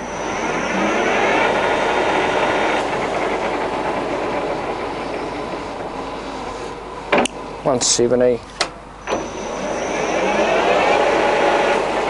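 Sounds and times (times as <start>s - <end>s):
lathe motor and gears whining: 0.0s - 8.0s, 8.8s - 12.0s.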